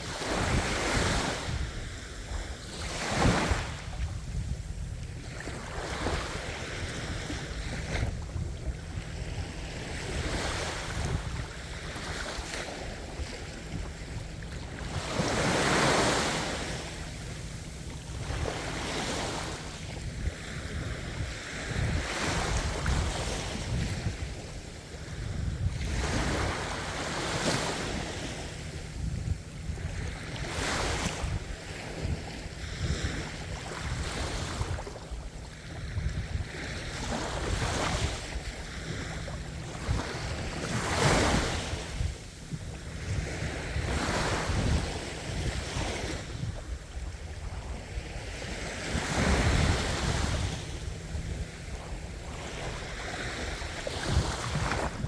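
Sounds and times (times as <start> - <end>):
ocean waves breaking on shore: 0.0 - 55.0
wind rumble on microphone: 0.0 - 55.0.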